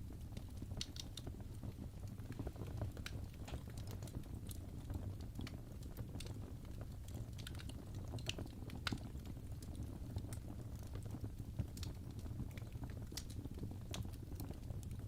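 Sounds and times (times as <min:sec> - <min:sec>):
fire crackling: 0:00.0 - 0:15.0
low rumble of fire: 0:00.0 - 0:15.0.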